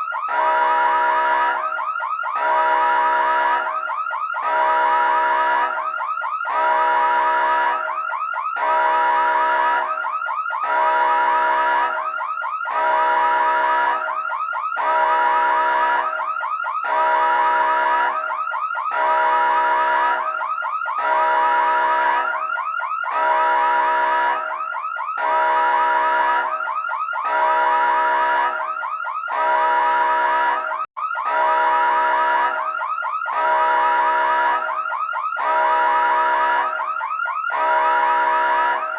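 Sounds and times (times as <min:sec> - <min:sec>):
emergency siren warbling: 0:00.0 - 0:38.9.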